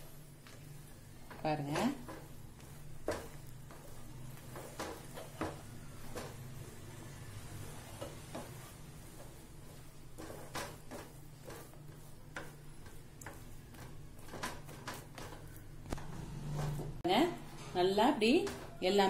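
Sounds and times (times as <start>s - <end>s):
wooden spatula scraping a pan: 0.0s - 15.8s.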